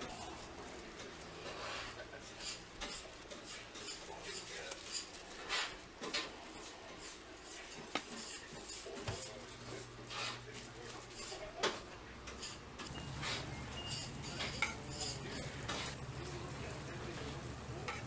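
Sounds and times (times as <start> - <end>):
metal pots and trays clinking: 0.0 - 9.4, 10.1 - 16.5, 17.1 - 18.0.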